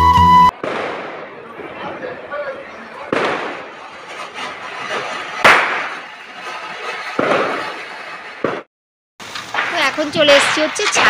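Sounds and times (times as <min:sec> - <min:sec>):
firecracker bangs: 0:00.5 - 0:11.0
firework fountain hissing: 0:00.6 - 0:11.0.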